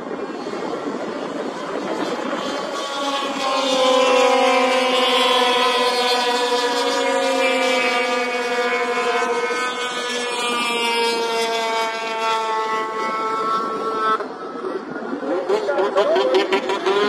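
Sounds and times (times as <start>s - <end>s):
snowmobile engines whining: 0.0s - 17.0s.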